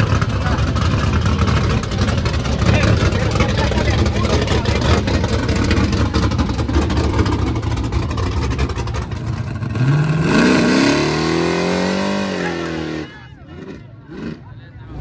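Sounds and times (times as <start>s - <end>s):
race engine running hard: 0.0s - 15.0s.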